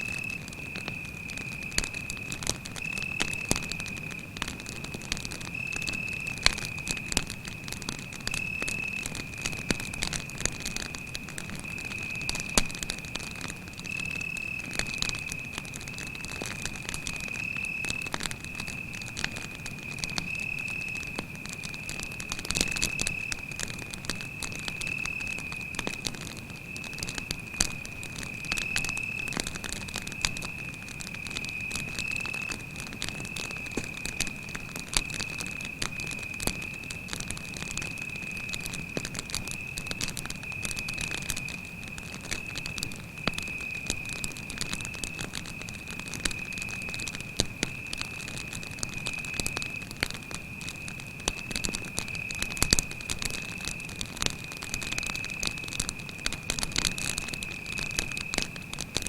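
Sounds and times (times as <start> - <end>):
cricket trilling: 0.0 - 58.7
campfire crackling: 0.0 - 59.0.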